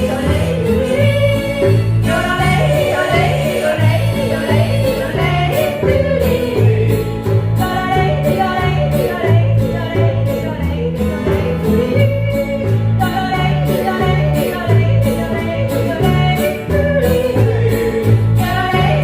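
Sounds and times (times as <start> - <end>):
instrumental accompaniment: 0.0 - 19.0
person singing: 0.0 - 19.0.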